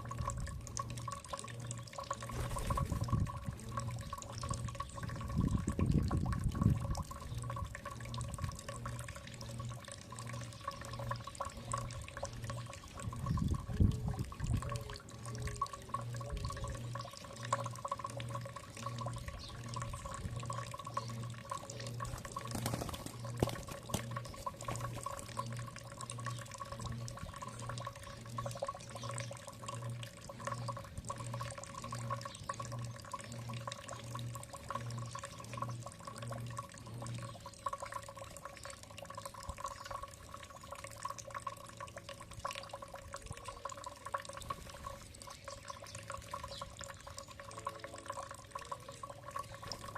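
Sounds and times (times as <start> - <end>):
steady hum: 0.0 - 47.7
water trickling and dripping: 0.0 - 49.9.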